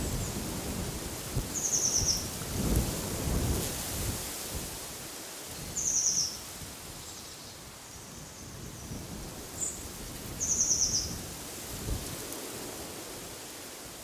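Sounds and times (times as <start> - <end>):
wind in trees: 0.0 - 14.0.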